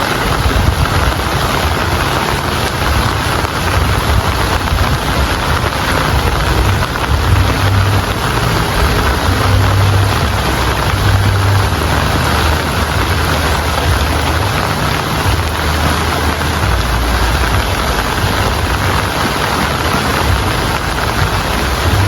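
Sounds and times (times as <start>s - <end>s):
heavy rain falling: 0.0s - 22.0s
low rumble: 0.1s - 22.0s.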